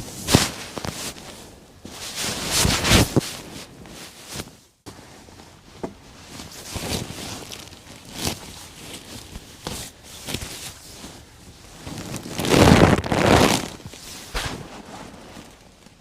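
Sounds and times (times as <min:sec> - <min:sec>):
rustling and knocks of handled gear: 0:00.0 - 0:16.0.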